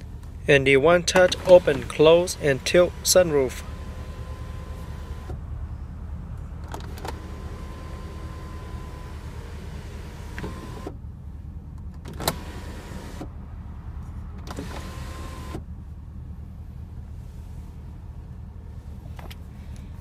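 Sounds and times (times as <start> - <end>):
sunroof motor whining: 0.0 - 19.2
steady low hum: 0.0 - 20.0.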